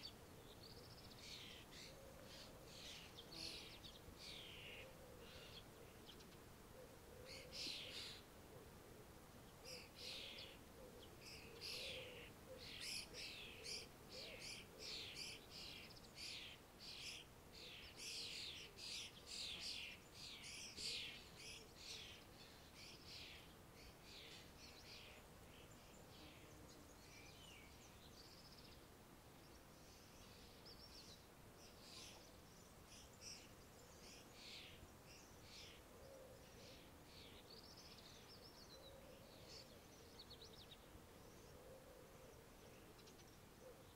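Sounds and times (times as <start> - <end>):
songbirds chirping and singing: 0.0 - 8.4, 9.0 - 43.9.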